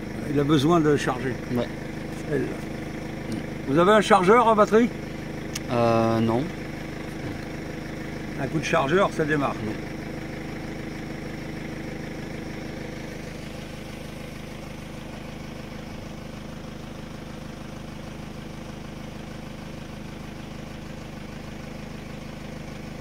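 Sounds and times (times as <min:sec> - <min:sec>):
tractor diesel engine idling: 0:00.0 - 0:23.0.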